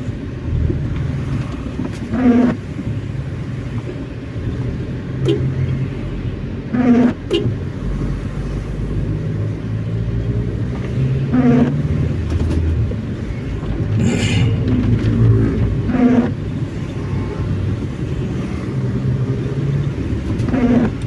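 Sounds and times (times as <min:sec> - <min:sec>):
engine and road hum: 0:00.0 - 0:21.0.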